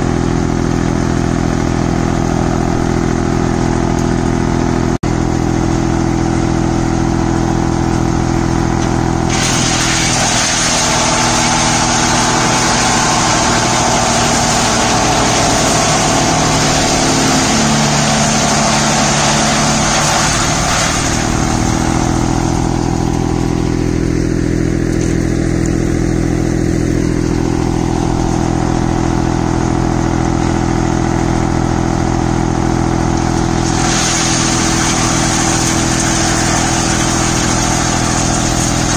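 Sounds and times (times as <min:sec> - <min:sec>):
tractor engine drone: 0:00.0 - 0:38.9
wood chipper shredding branches: 0:00.0 - 0:38.9.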